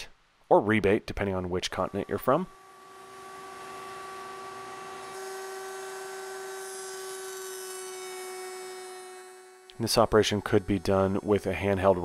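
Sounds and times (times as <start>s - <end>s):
router high whine: 1.7s - 12.0s.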